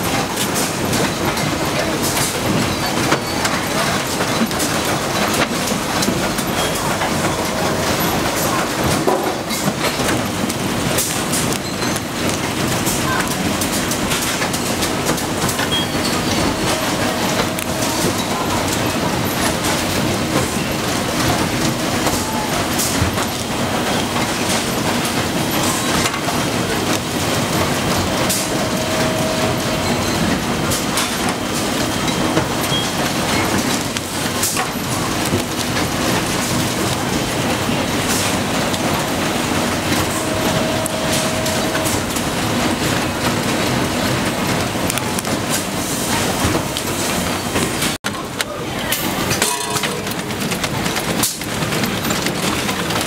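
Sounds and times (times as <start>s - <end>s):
machinery clattering: 0.0s - 53.0s.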